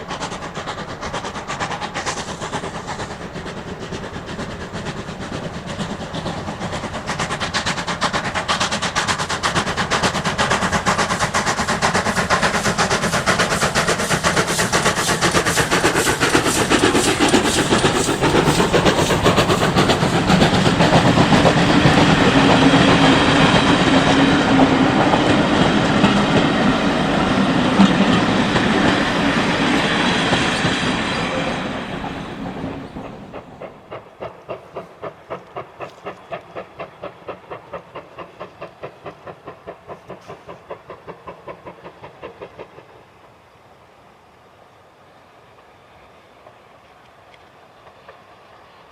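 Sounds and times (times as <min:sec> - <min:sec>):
train wheels clattering on rails: 0:00.0 - 0:43.6
steam train exhaust beats: 0:00.0 - 0:46.8.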